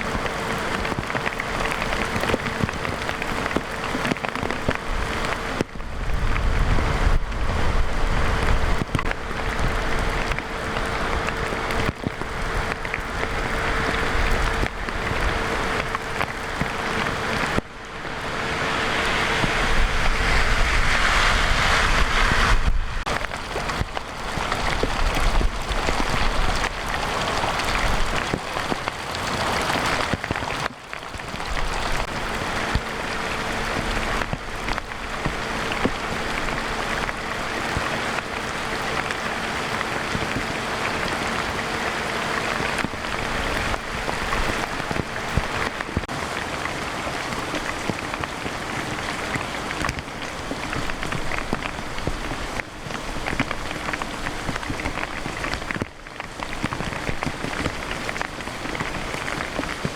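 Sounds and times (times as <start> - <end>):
heavy rain pouring: 0.0 - 59.9
rushing storm water: 0.0 - 59.9.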